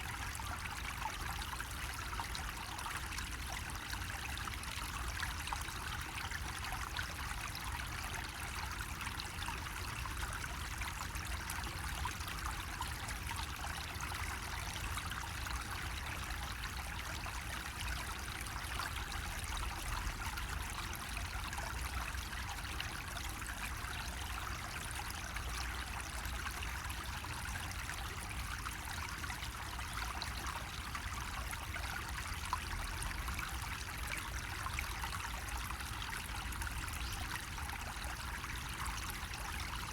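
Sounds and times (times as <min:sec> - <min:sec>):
water trickling from spout: 0:00.1 - 0:39.9.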